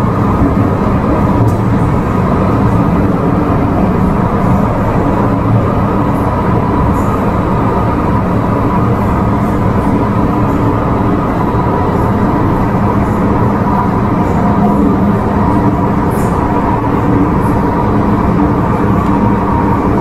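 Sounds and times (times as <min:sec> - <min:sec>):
steady hum: 0:00.0 - 0:20.0
train wheels rumbling on rail: 0:00.0 - 0:20.0.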